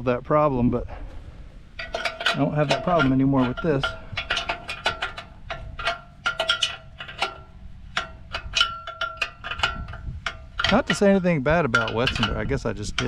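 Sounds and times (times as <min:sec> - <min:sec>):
light metal clinks: 0:01.8 - 0:13.0.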